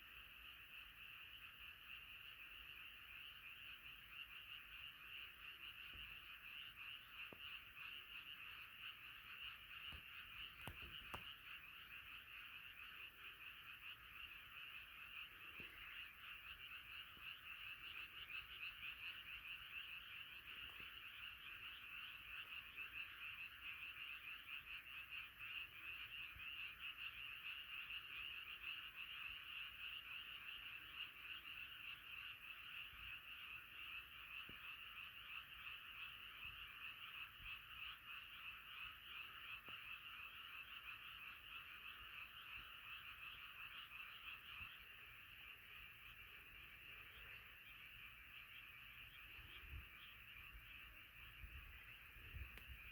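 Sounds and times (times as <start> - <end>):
chorus of frogs trilling: 0.0 - 52.9.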